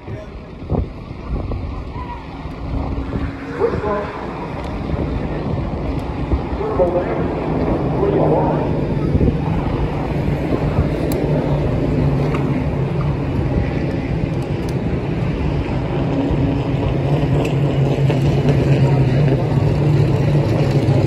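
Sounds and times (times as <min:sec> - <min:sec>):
race truck engines idling: 0:00.0 - 0:21.0.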